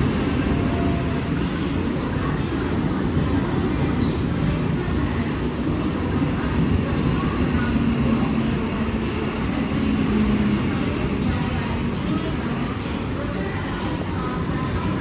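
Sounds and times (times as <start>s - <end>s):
train rumbling through station: 0.0s - 15.0s.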